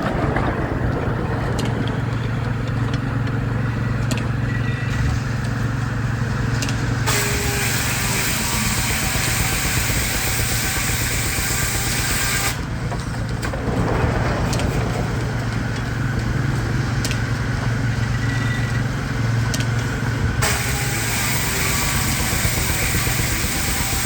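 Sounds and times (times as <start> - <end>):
sawmill machinery humming: 0.0 - 24.0.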